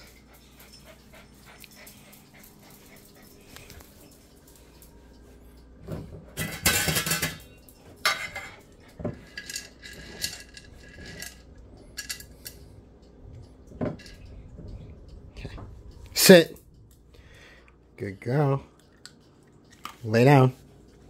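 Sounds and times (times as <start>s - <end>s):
light clicks and clinks: 0.0s - 17.1s.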